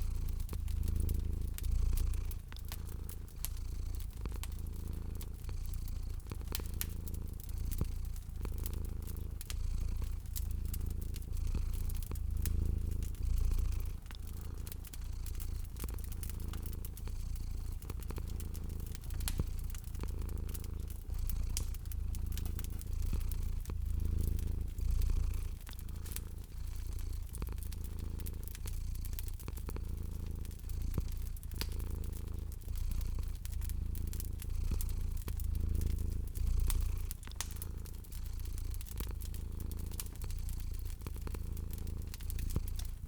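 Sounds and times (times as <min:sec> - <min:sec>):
cat purring: 0:00.0 - 0:43.0
wood fire crackling: 0:00.0 - 0:43.0.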